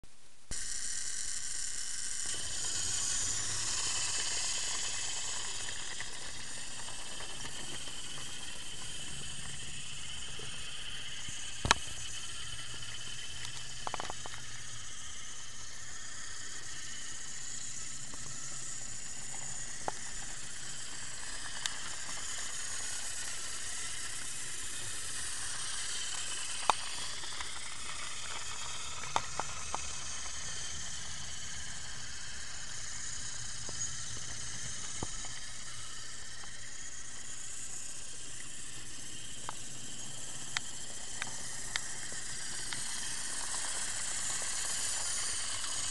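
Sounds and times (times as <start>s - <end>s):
toy train motor whirring: 0.5s - 45.9s.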